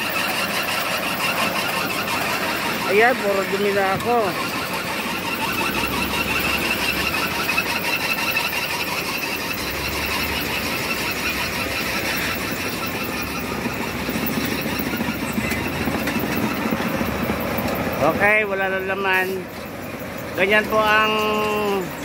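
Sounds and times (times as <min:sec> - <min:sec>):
continuous high squeal: 0:00.0 - 0:22.0
diesel engine rumble: 0:00.0 - 0:22.0.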